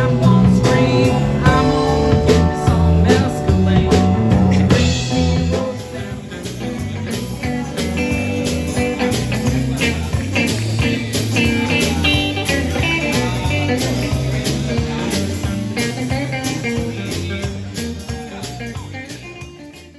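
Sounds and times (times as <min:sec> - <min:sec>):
bass: 0:00.0 - 0:19.9
drums with steady beat: 0:00.0 - 0:19.9
guitar: 0:00.0 - 0:19.9.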